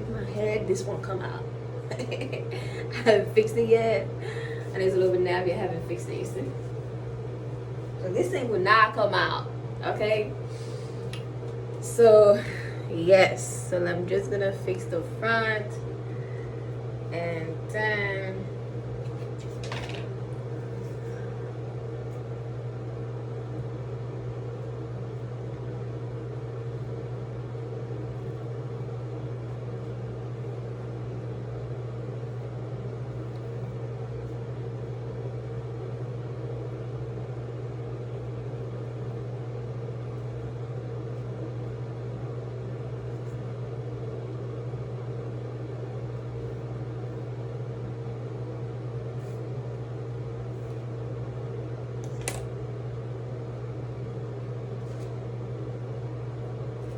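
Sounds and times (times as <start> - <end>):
appliance motor hum: 0.0 - 56.9.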